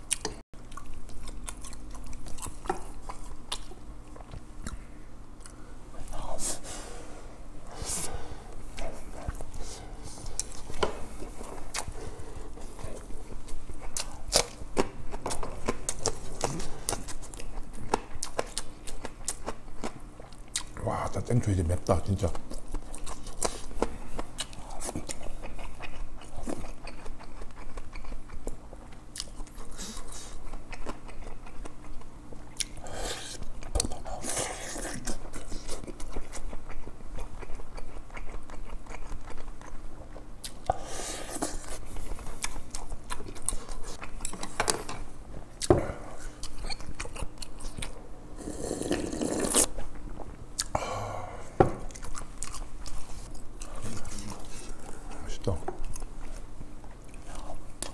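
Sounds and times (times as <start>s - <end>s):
chewing and biting food: 0.0s - 5.6s, 8.7s - 50.8s, 51.8s - 57.9s.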